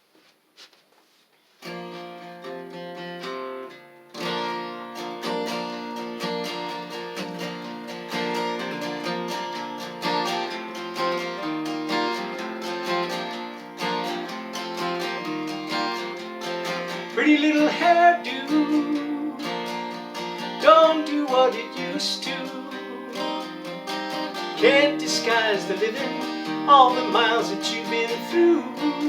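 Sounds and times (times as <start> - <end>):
acoustic guitar strumming: 1.6 - 29.0.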